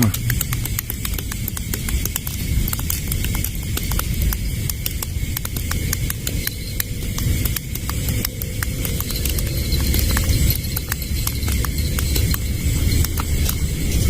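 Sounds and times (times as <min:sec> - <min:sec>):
campfire crackling and popping: 0:00.0 - 0:14.0
low rumble: 0:00.0 - 0:14.0.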